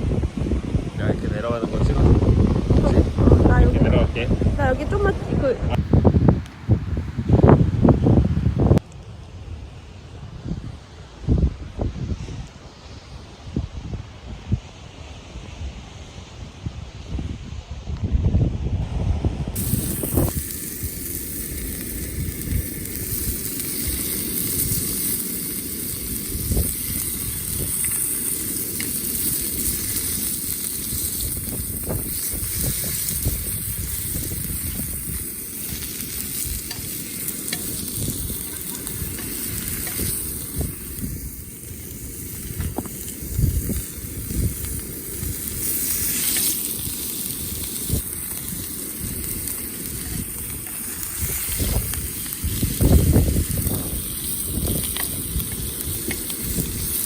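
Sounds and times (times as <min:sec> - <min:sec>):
steady high hiss: 0:00.0 - 0:57.0
wind buffeting microphone: 0:00.0 - 0:57.0.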